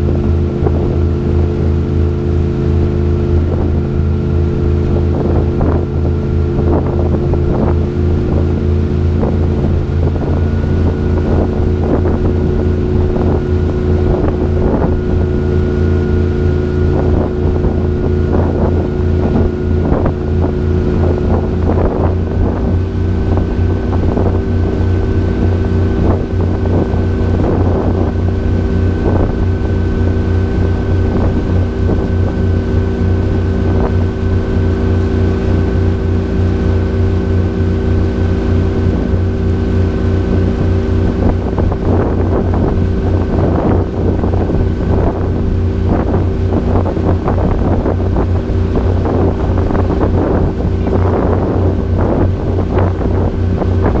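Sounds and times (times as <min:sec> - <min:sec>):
boat engine running: 0:00.0 - 0:54.0
wake churning and splashing: 0:00.0 - 0:54.0.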